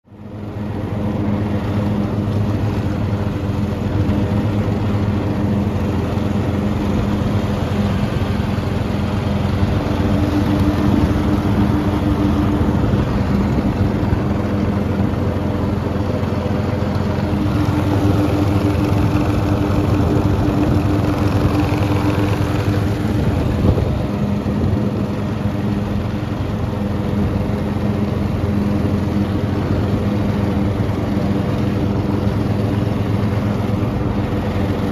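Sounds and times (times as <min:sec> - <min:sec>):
lawn tractor engine running: 0:00.1 - 0:34.9.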